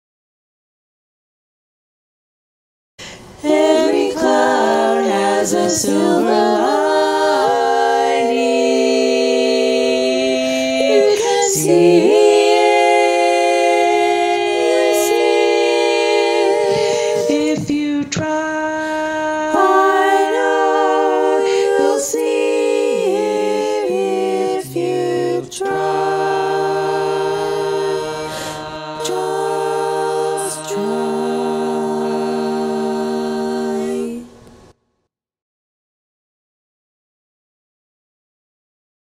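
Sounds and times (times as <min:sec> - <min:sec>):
women singing close harmony: 0:03.1 - 0:34.4.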